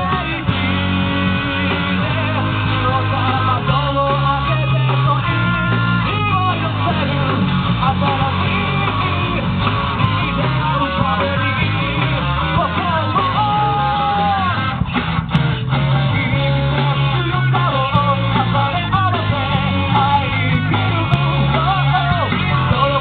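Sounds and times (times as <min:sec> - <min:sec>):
man singing: 0:00.0 - 0:14.8, 0:15.7 - 0:23.0
bass guitar: 0:00.0 - 0:23.0
drums: 0:00.0 - 0:23.0
electric guitar: 0:00.0 - 0:23.0.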